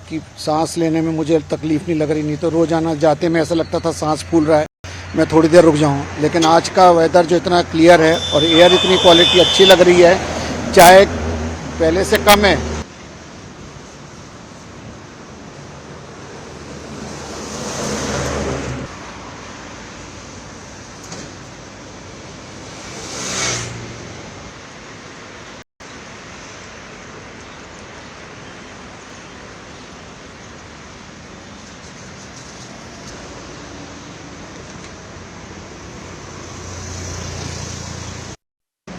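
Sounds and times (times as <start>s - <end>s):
road traffic hum: 0.0s - 38.9s
vehicles passing close: 0.0s - 38.9s.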